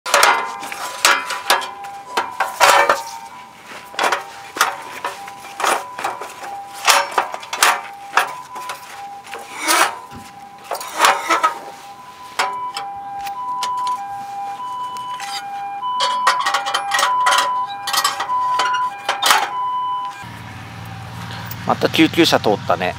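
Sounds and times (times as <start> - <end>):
metal fire pit clanking: 0.0 - 14.0, 15.0 - 20.3
soft steady high tones: 0.1 - 20.3.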